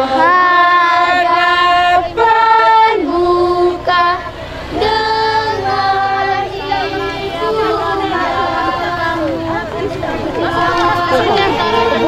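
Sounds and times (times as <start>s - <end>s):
children and women singing a hymn: 0.0s - 12.0s.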